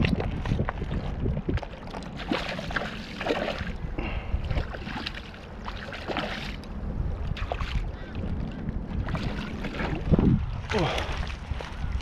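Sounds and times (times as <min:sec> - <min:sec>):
fish splashing and thrashing: 0:00.0 - 0:12.0
wind rumble on microphone: 0:00.0 - 0:12.0.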